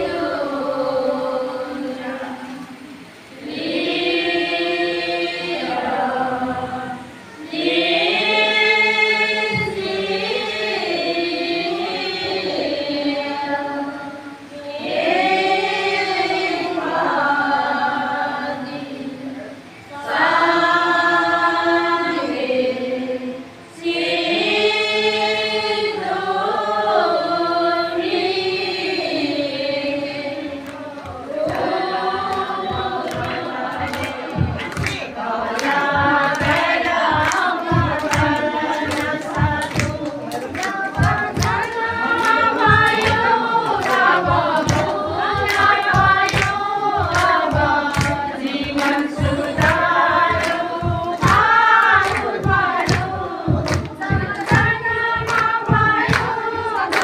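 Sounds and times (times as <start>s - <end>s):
women chanting in unison: 0.0s - 57.0s.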